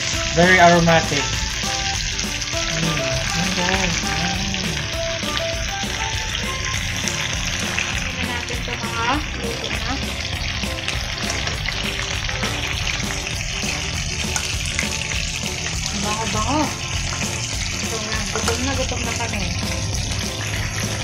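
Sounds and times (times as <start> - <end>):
chicken sizzling in a frying pan: 0.0 - 21.0.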